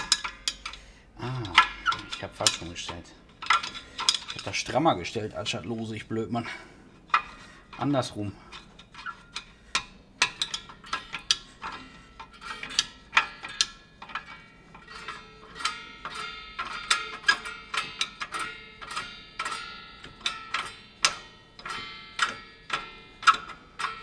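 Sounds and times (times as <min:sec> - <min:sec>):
ringing metallic clicks: 0:00.0 - 0:06.0, 0:07.1 - 0:24.0.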